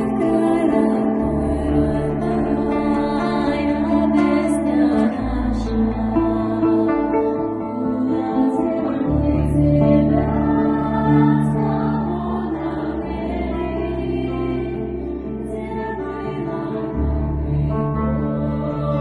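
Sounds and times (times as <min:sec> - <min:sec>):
long held sung notes: 0:00.0 - 0:19.0
steady low drone: 0:00.0 - 0:19.0.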